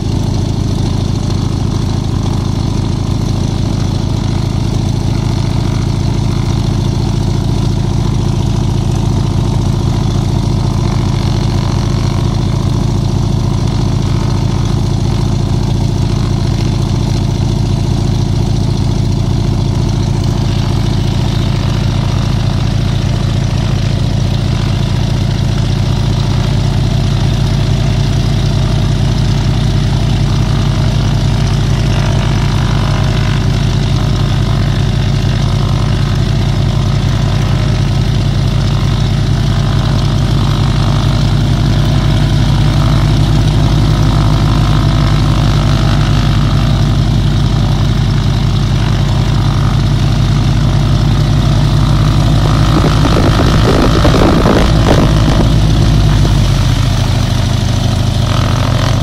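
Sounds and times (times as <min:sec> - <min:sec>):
radial aircraft engine idling: 0:00.0 - 0:59.0.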